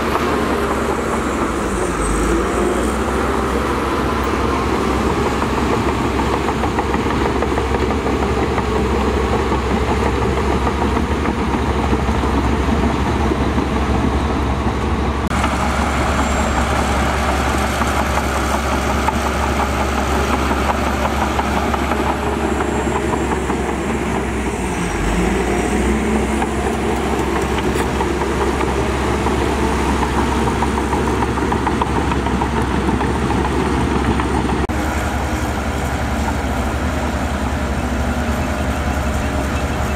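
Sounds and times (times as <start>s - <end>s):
diesel machinery engine rumble: 0.0s - 39.9s.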